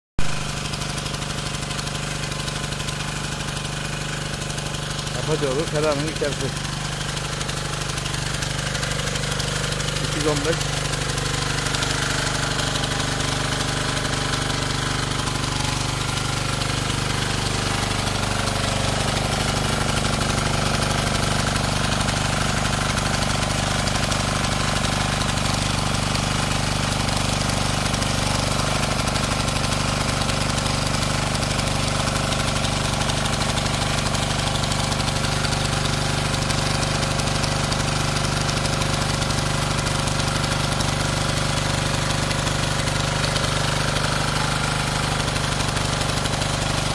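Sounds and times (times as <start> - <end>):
tiller diesel engine running: 0.2 - 46.9.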